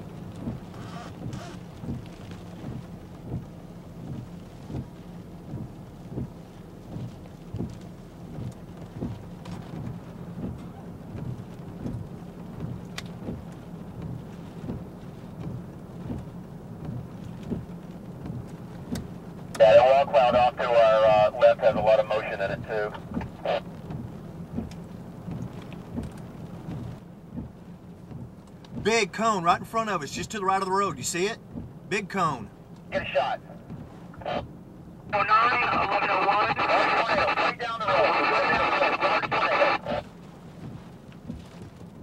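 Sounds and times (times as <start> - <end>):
heavy rain beating on vehicle: 0.0 - 42.0.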